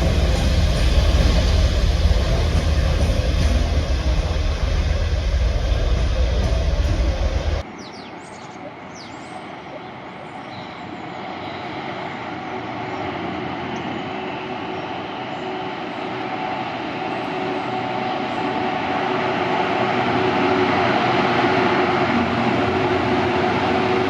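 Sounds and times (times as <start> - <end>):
steady rail noise: 0.0 - 24.0
train running past: 0.0 - 24.0.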